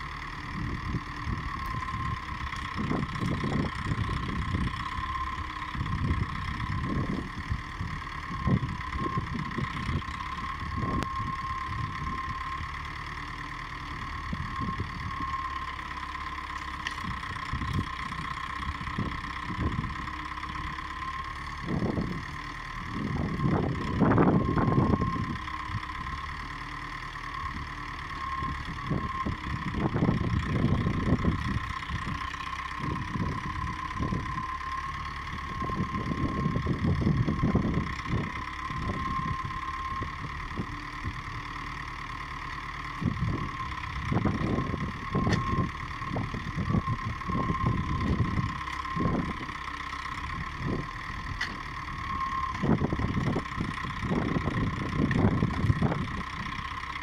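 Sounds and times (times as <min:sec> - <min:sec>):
diesel engine whining: 0:00.0 - 0:57.0.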